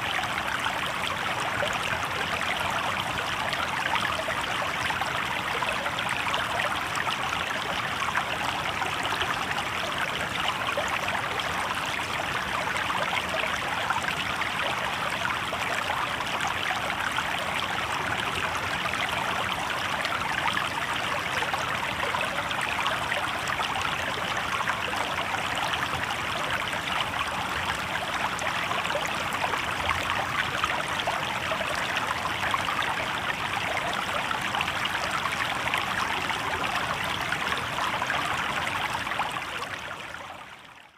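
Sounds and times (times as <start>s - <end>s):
water babbling over stones: 0.0s - 40.9s.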